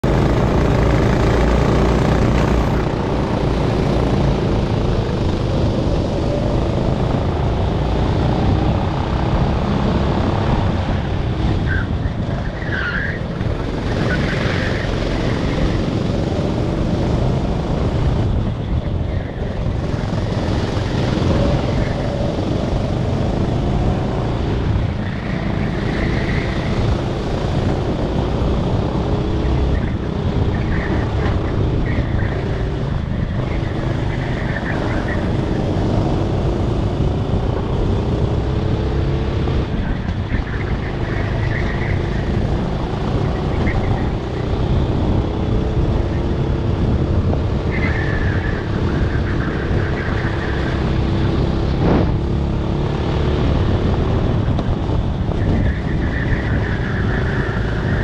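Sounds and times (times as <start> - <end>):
kart engine revving: 0.0 - 58.0
other kart engines: 0.0 - 58.0.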